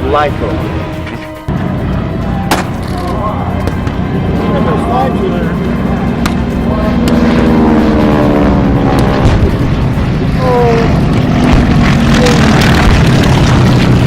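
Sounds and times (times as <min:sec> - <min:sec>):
propeller airplane engine passing: 0:00.0 - 0:14.0.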